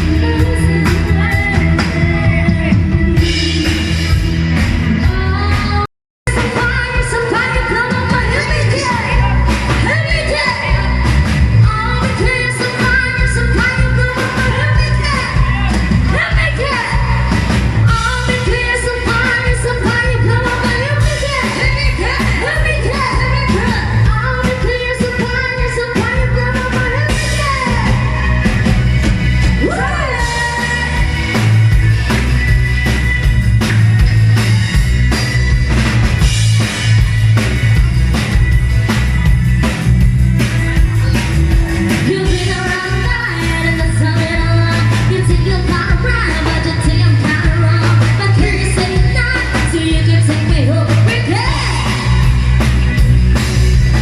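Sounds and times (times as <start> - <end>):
pop-rock song with singer: 0.0 - 54.0.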